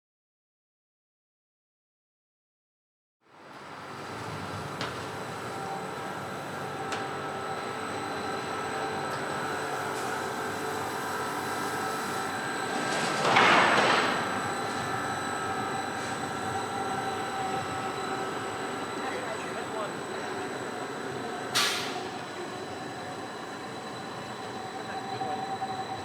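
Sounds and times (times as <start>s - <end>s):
tram rolling with whine: 3.3s - 26.0s.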